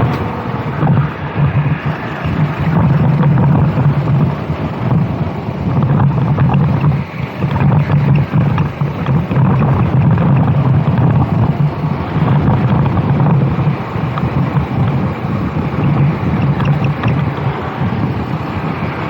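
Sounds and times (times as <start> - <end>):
kart engine running: 0.0 - 19.0
wind buffeting microphone: 0.0 - 19.0.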